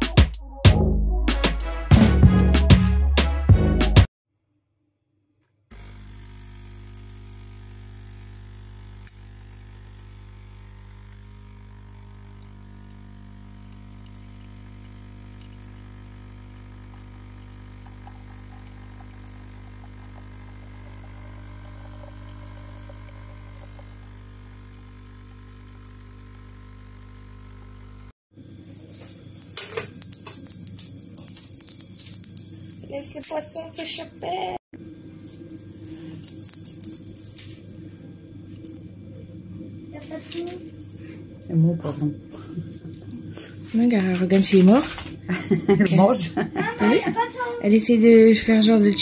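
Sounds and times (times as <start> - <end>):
coffee machine pump humming: 5.7 - 33.8, 34.8 - 49.0.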